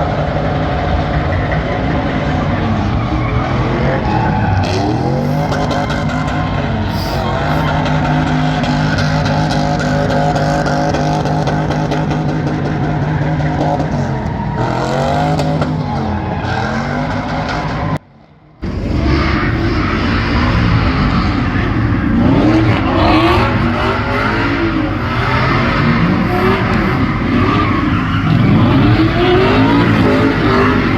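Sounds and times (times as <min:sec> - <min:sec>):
truck engine revving high: 0:00.0 - 0:18.0, 0:18.6 - 0:30.9
tyres squealing on pavement: 0:01.2 - 0:18.0, 0:18.6 - 0:30.9.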